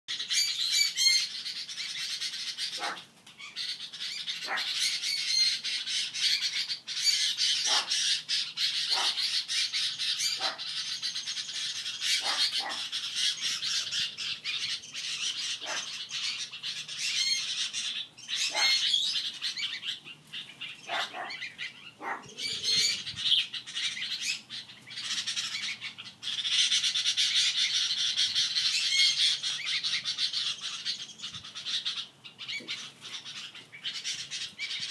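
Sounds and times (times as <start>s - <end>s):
birds squawking and chirping: 0.1s - 34.9s
sharp falling bird calls: 0.1s - 34.9s.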